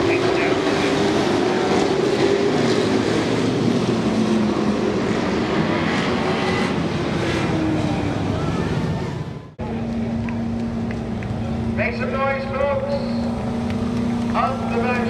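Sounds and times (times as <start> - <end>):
race truck engines passing: 0.0 - 15.0.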